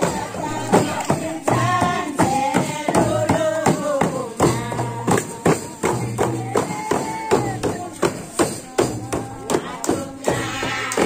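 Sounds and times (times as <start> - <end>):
drums beating quick rhythm: 0.0 - 11.0
group singing: 0.0 - 11.0.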